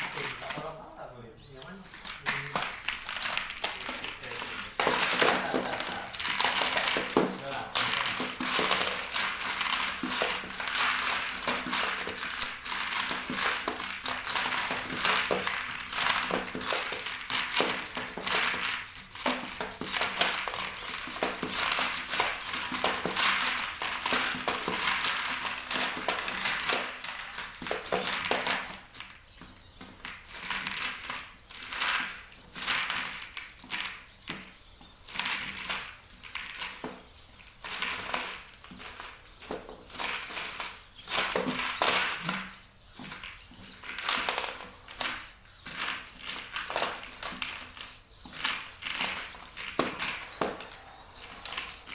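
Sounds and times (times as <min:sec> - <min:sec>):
faint motor hum: 0:00.0 - 0:51.9
robot legs tapping on floor: 0:00.0 - 0:51.9.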